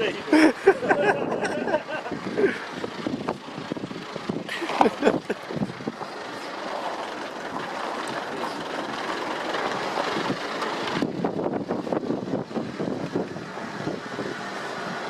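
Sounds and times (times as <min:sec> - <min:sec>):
road and tyre noise: 0:00.0 - 0:15.0
van body rattling: 0:00.0 - 0:15.0.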